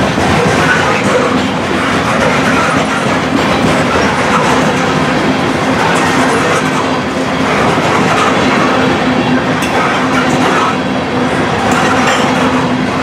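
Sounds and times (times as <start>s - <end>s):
freight cars rumbling on rails: 0.0s - 13.0s.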